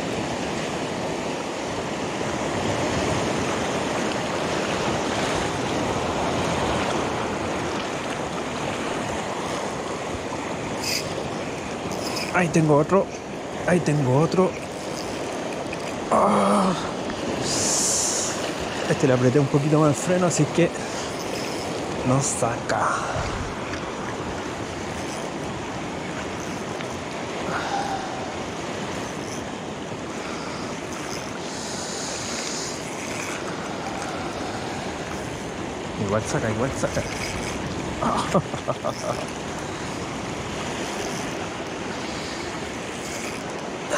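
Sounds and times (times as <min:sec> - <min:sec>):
ocean surf washing in: 0:00.0 - 0:43.9.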